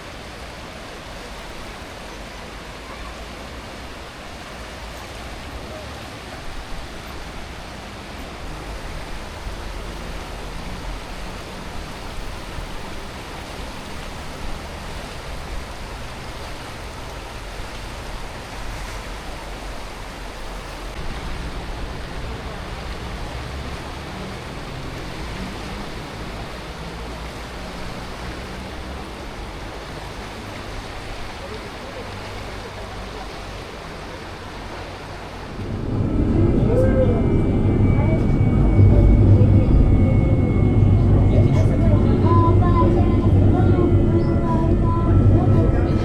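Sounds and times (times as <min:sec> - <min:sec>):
river rushing through a gorge: 0:00.0 - 0:38.6.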